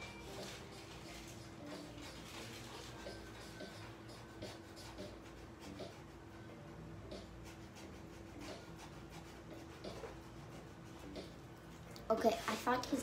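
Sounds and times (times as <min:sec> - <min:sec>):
drawing tool scratching on paper: 0:00.2 - 0:11.4.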